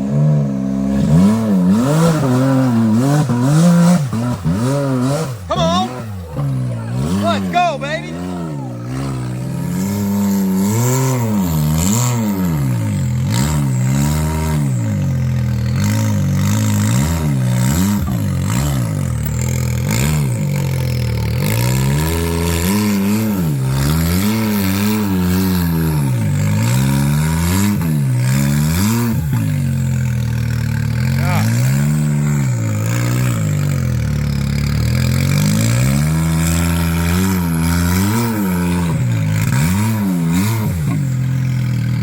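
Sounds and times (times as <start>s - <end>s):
utv engine revving: 0.0s - 42.0s.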